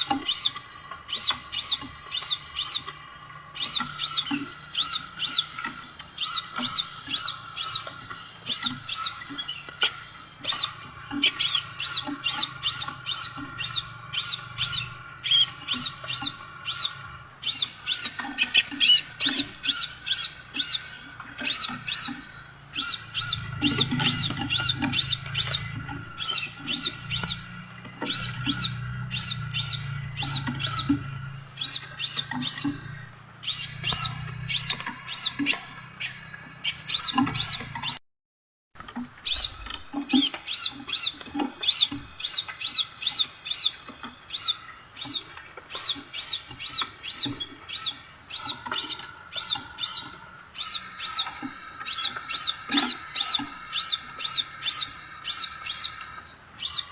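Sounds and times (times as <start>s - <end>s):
bird calling high-pitched notes: 0.0s - 38.0s, 39.0s - 56.9s.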